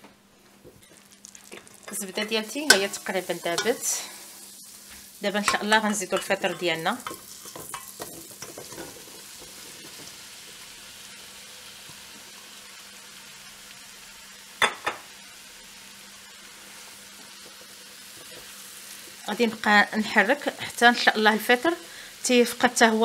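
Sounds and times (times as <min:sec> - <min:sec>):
mushrooms sizzling in butter: 0:00.7 - 0:23.0.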